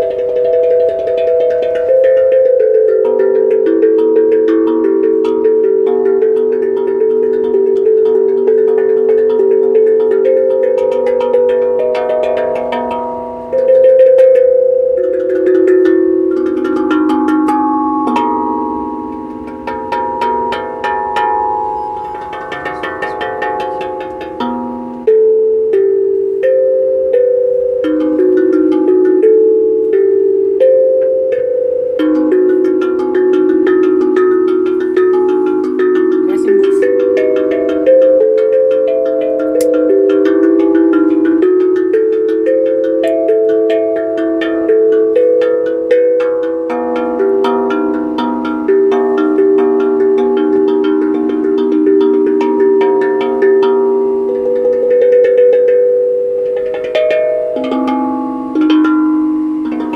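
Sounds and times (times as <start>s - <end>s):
tuned percussion melody: 0.0s - 59.9s.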